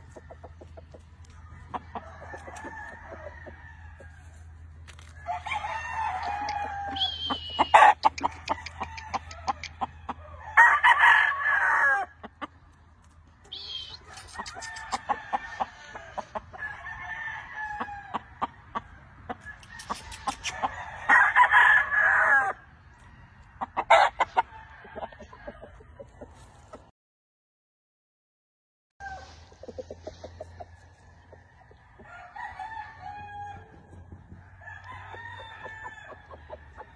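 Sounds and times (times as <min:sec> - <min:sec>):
roosters crowing: 0:00.0 - 0:12.7, 0:13.3 - 0:25.8, 0:29.0 - 0:36.9.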